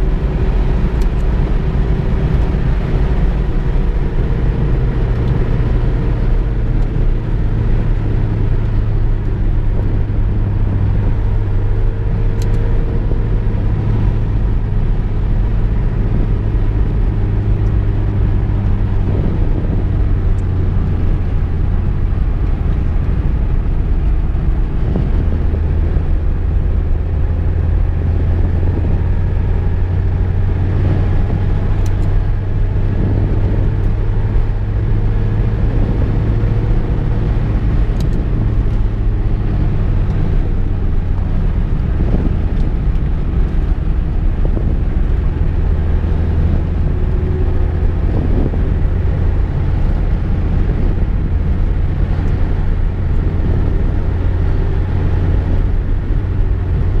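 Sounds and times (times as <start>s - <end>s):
car engine hum: 0.0s - 57.0s
road rumble: 0.0s - 57.0s.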